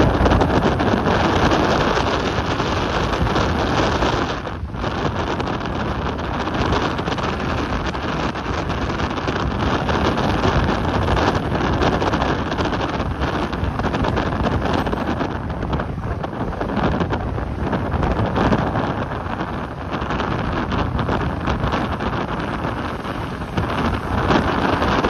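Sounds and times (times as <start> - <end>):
traffic: 0.0 - 25.0
wind buffeting microphone: 0.0 - 25.0.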